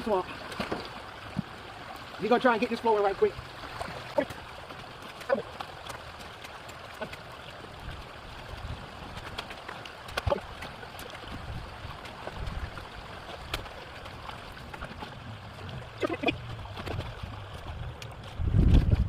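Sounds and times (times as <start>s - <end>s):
water gurgling through dam: 0.0s - 19.0s.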